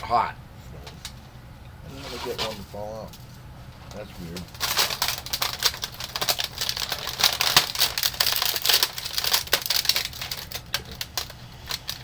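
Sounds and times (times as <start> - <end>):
plastic packaging crinkling: 2.2 - 12.0.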